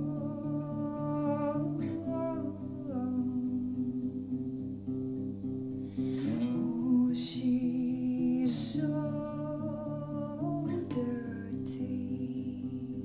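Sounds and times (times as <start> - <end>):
woman singing: 0.0 - 4.6, 6.1 - 13.0.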